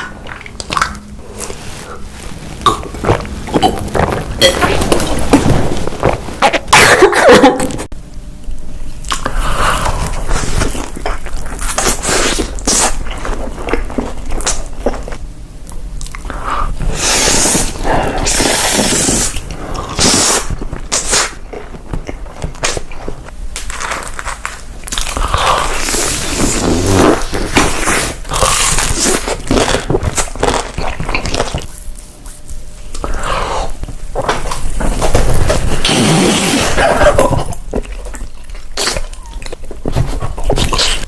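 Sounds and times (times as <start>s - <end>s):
wet mouth sounds: 0.0s - 6.9s, 9.0s - 15.2s, 16.0s - 23.9s, 24.9s - 41.0s
person chewing and crunching food: 0.0s - 7.9s, 8.8s - 41.0s.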